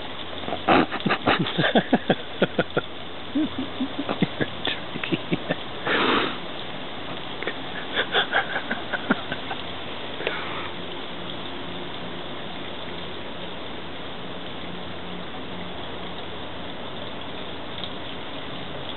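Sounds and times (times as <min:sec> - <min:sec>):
fountain water splashing into basin: 0:00.0 - 0:18.9.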